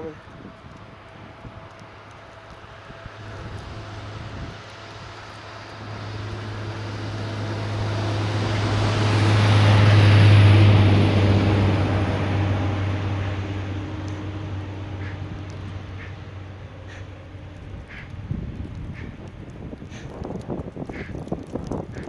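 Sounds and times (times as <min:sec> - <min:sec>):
truck driving past: 0:01.4 - 0:19.3.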